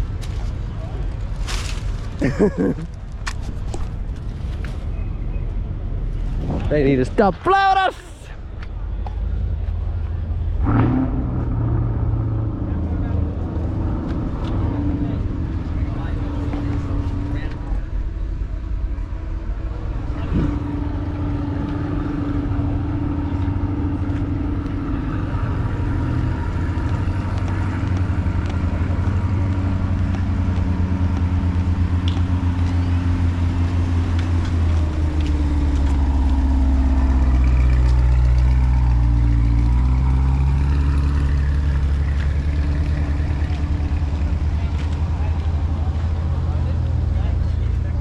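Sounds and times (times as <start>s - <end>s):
car engine with deep exhaust: 8.3s - 48.0s.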